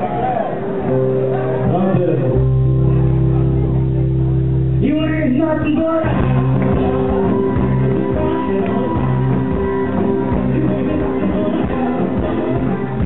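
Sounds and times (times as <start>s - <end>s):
rock and roll music with guitar: 0.0s - 13.0s.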